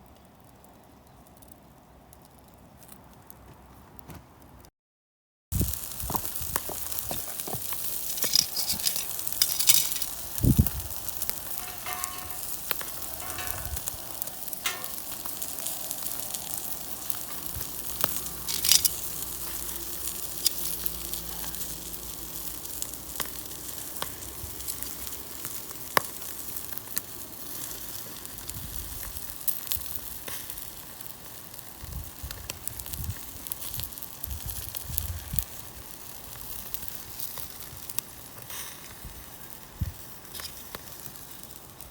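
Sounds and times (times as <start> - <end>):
fire crackling and popping: 0.0 - 3.5, 5.5 - 41.9
food sizzling on a grill: 5.6 - 41.9.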